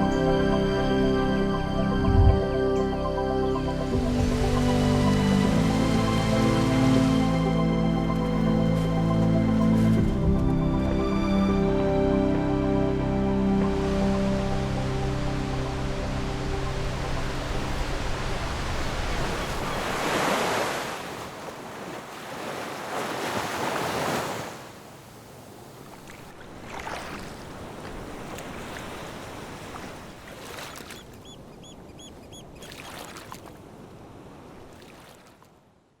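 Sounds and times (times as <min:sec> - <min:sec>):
ocean waves breaking: 0:03.9 - 0:12.4, 0:13.1 - 0:35.5.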